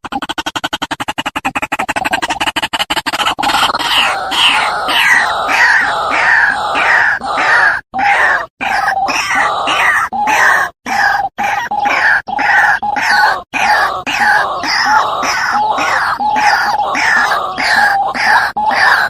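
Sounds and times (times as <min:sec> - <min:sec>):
waterhen clucking pulses: 0:00.0 - 0:19.0
waterhen harsh repeated calls: 0:00.0 - 0:19.0.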